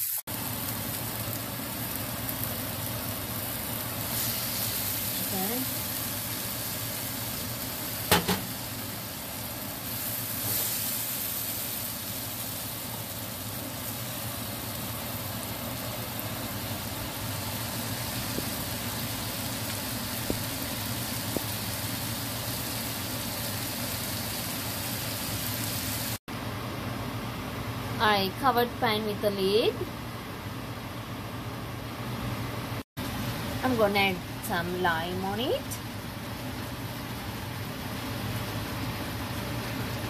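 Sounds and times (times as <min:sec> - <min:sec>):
food sizzling in a frying pan: 0:00.0 - 0:26.2, 0:33.0 - 0:40.0.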